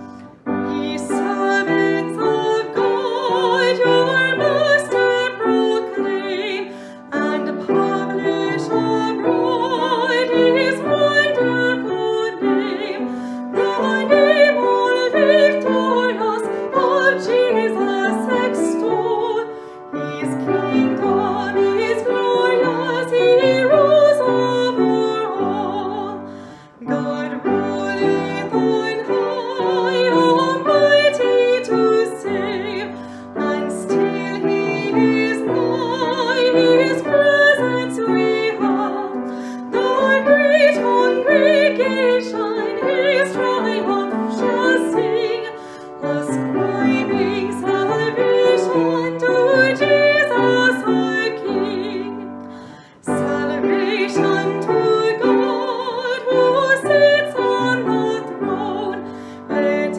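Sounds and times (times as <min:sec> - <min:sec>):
piano accompaniment: 0:00.0 - 0:59.9
woman singing a hymn: 0:00.0 - 0:59.9.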